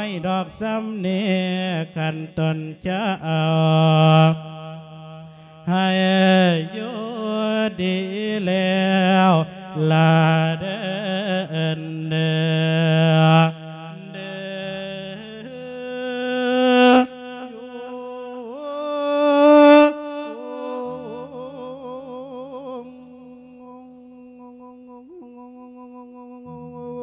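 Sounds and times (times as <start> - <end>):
monk chanting into a microphone: 0.0 - 27.0.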